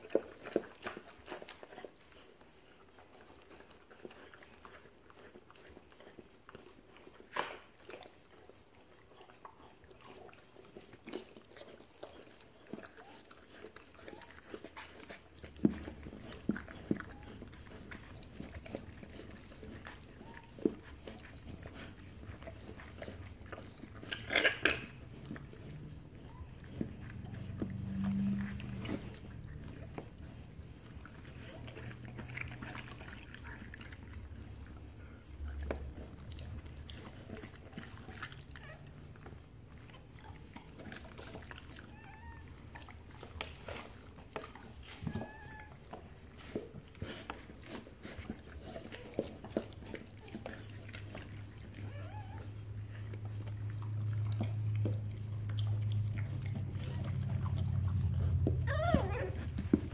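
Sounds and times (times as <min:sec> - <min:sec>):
dog licking puppy: 0:00.0 - 0:59.9.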